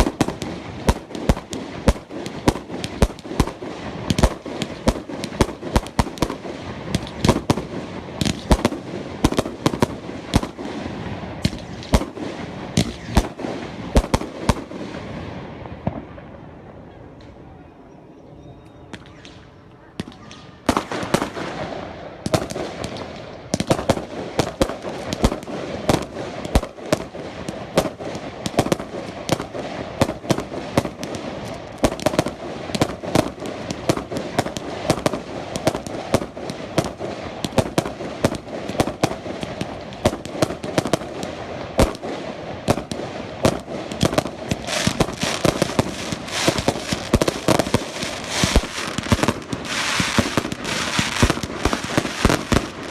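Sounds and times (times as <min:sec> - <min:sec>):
fireworks crackling: 0:00.0 - 0:17.4, 0:19.0 - 0:52.9
fireworks bangs: 0:00.0 - 0:17.5, 0:18.9 - 0:52.9.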